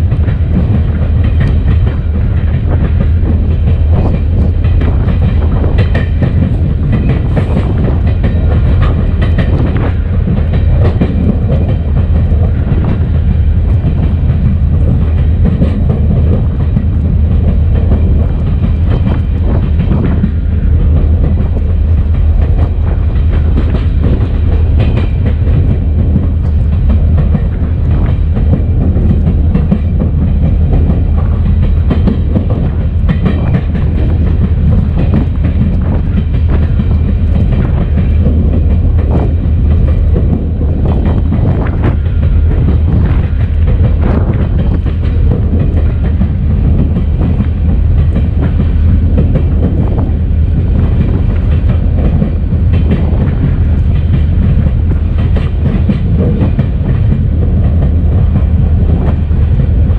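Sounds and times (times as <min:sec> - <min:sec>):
diesel locomotive rumbling: 0:00.0 - 0:59.9
rail clatter: 0:00.0 - 0:59.9.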